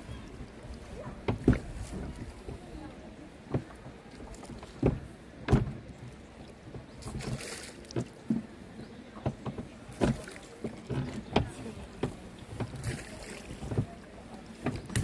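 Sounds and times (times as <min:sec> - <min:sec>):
paddle knocks and splashes: 0:00.0 - 0:15.0
rush of water: 0:00.0 - 0:15.0.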